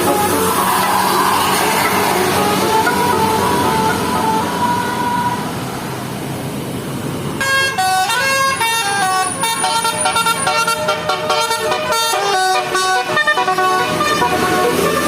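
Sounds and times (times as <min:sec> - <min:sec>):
musical bus horn tune: 0:00.0 - 0:05.6, 0:07.4 - 0:15.0
bus engine and road noise: 0:00.0 - 0:15.0.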